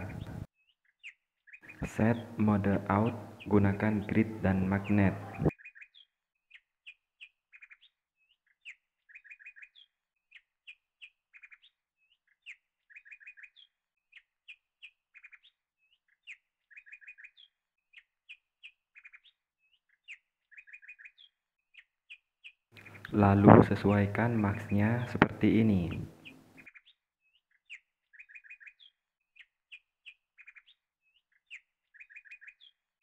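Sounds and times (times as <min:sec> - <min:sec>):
faint bird chirping: 0:00.0 - 0:33.0.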